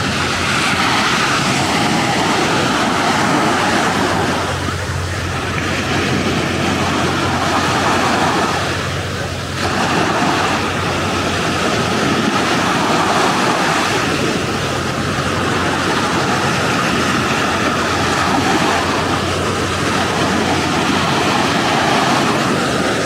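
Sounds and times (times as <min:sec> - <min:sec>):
surf breaking on beach: 0:00.0 - 0:23.0.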